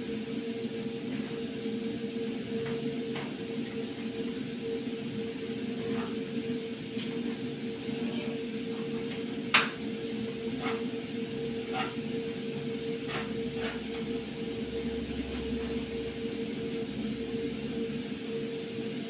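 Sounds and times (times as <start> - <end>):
gas stove hiss and hum: 0.0 - 19.0.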